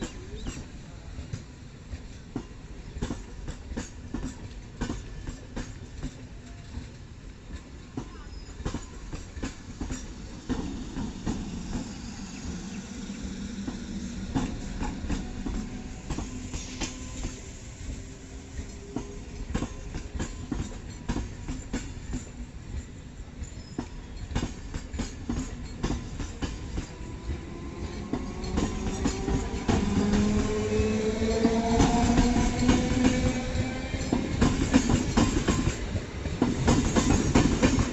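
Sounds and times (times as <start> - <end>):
train rumbling on rails: 0.0 - 37.9
train wheels clicking over rail joints: 0.0 - 37.9.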